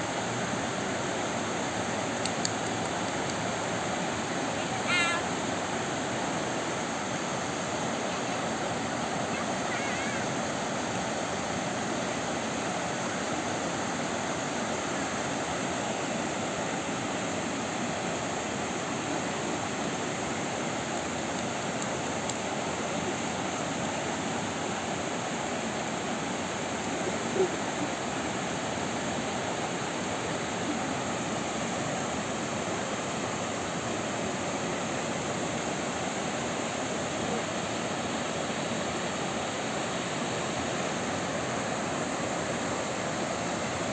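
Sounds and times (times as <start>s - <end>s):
river rushing over rapids: 0.0s - 43.9s.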